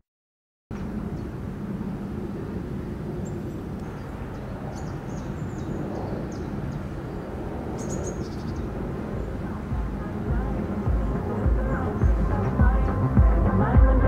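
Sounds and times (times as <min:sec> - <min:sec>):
low rumble of traffic: 0:00.7 - 0:14.0.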